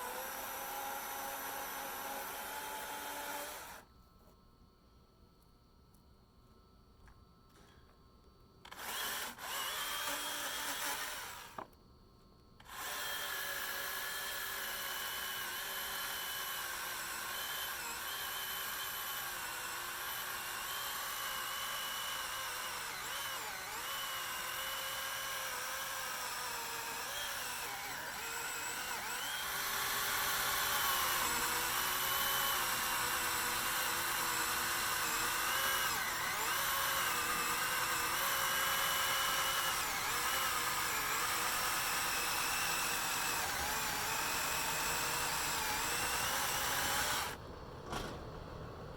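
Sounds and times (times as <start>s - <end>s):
battery chainsaw motor whining: 0.0s - 3.8s, 8.6s - 11.7s, 12.6s - 47.4s.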